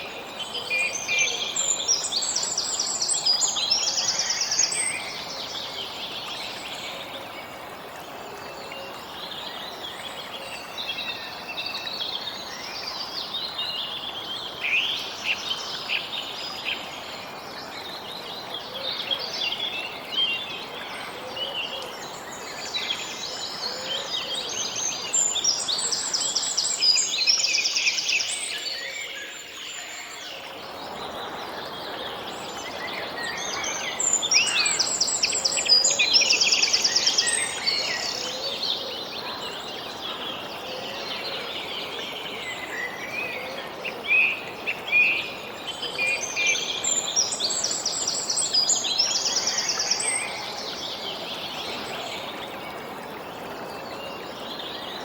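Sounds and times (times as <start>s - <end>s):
songbirds singing with trills: 0.0s - 55.0s.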